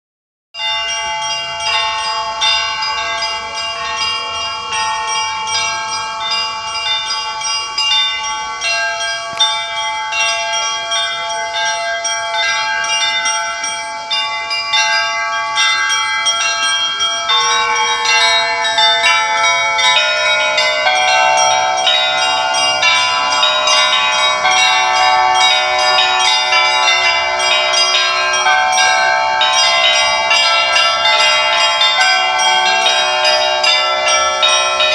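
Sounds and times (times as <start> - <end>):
church bells ringing a peal: 0.6 - 34.9
deeper bells ringing: 0.6 - 34.9.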